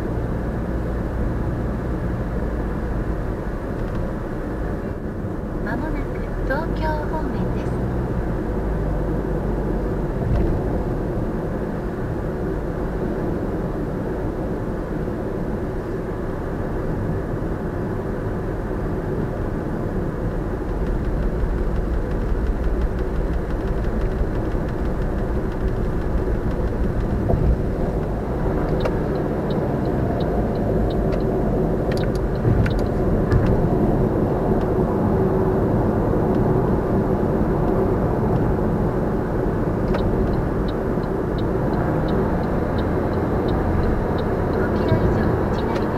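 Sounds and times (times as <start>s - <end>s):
car engine hum: 0.0s - 45.9s
road and tyre noise: 0.0s - 45.9s.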